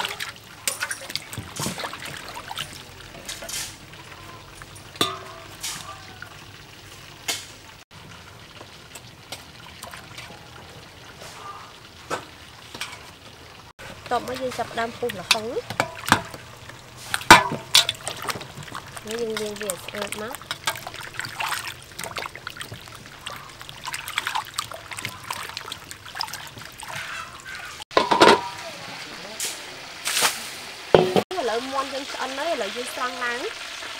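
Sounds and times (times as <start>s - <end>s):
water dripping and sloshing: 0.0s - 33.9s.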